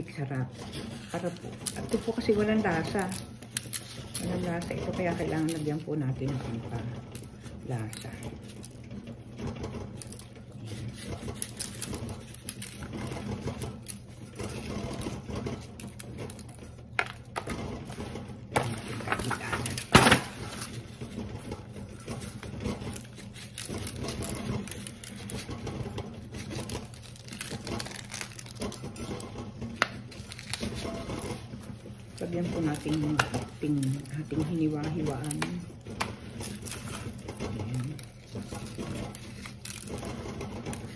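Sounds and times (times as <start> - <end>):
aluminium foil crinkling: 0.0 - 40.9
foil tray clattering: 0.0 - 40.9.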